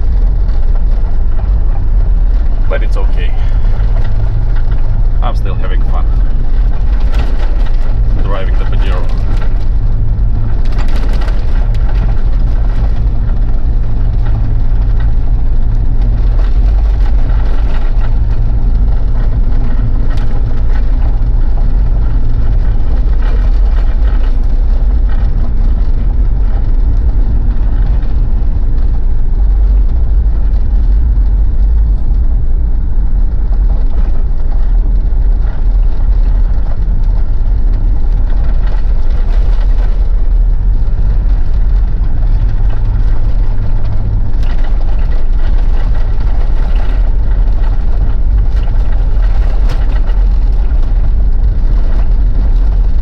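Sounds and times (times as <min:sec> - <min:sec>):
diesel engine and tyre rumble: 0:00.0 - 0:53.0
knocks and rattles over bumps: 0:00.0 - 0:53.0.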